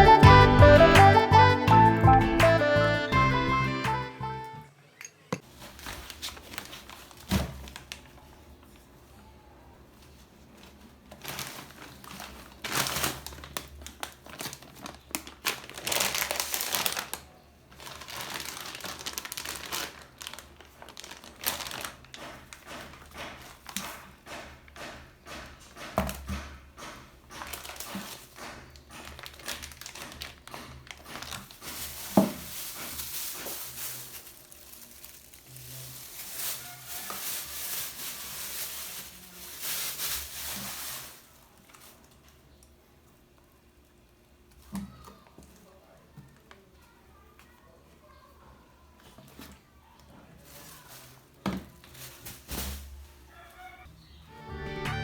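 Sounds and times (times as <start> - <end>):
crinkling and rustling: 5.4 - 53.9.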